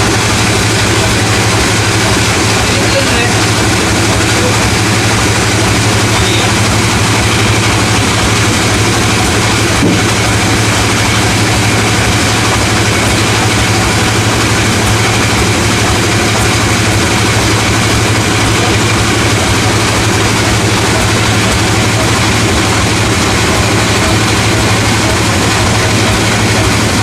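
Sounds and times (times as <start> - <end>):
sawmill machinery droning: 0.0 - 27.0.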